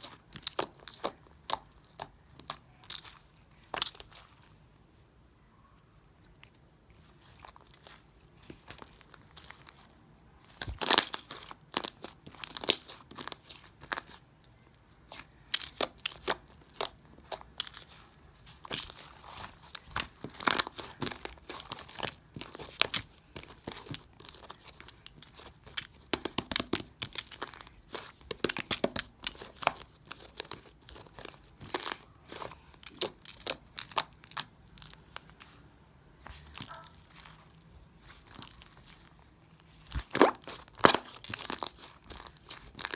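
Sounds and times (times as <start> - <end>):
hands squishing slime: 0.0 - 4.6, 6.4 - 42.9.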